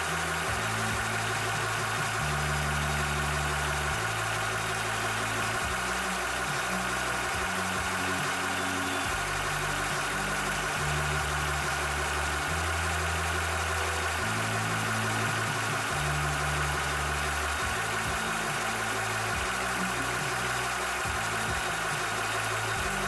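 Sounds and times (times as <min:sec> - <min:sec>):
air compressor humming: 0:00.0 - 0:23.0.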